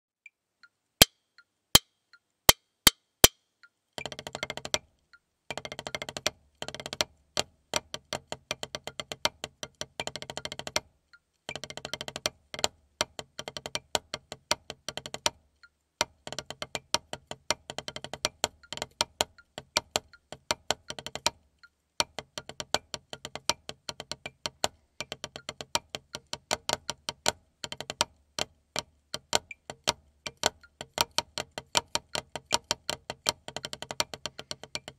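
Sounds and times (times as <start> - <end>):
drumsticks tapping practice pad: 1.8 - 4.9, 5.5 - 10.9, 11.5 - 21.4, 22.0 - 34.9.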